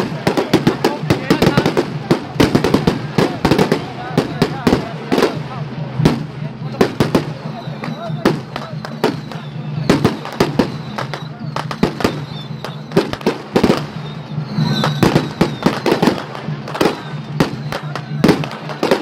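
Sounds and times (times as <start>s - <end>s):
firecrackers banging: 0.0s - 19.0s.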